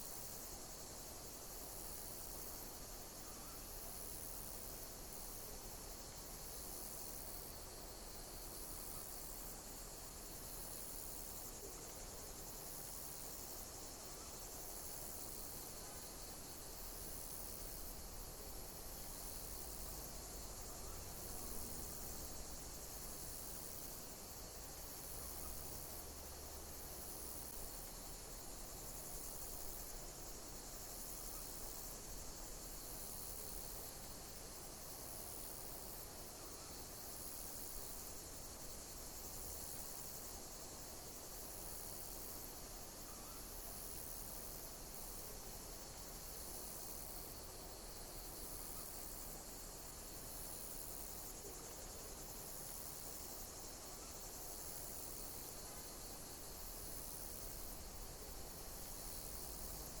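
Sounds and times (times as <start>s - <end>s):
insects chirping: 0.0s - 60.0s
steady hiss: 0.0s - 60.0s.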